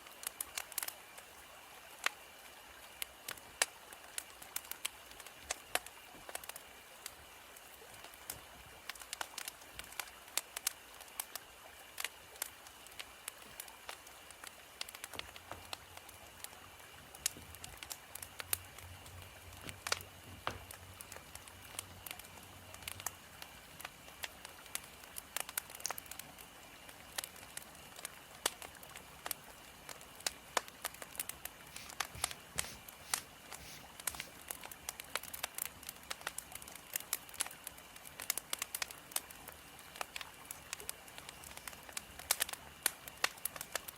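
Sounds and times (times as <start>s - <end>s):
firewood crackling: 0.0s - 43.9s
soft hiss of fire: 0.0s - 43.9s.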